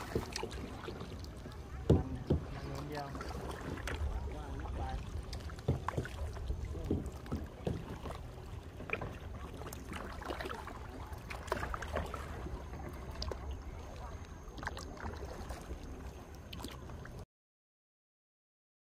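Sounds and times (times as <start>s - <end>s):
kayak paddle strokes: 0.0s - 17.2s
water splashing and dripping: 0.0s - 17.2s.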